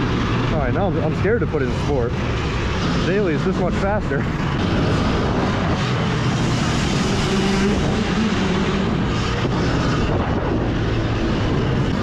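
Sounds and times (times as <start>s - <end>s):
dirt bike motor: 0.0s - 12.0s
wind rushing over microphone: 0.0s - 12.0s.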